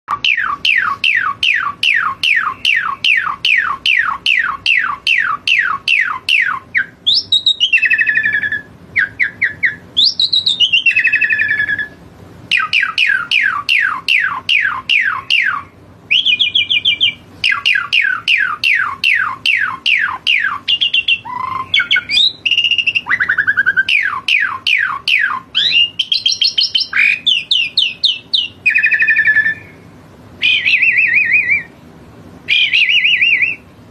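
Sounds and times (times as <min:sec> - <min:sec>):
starling singing whistled notes: 0:00.1 - 0:31.8, 0:32.4 - 0:33.8.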